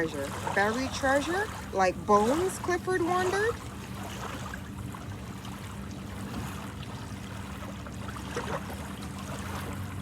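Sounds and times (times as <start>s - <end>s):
low steady hum: 0.0s - 10.0s
ocean waves on a beach: 0.0s - 10.0s.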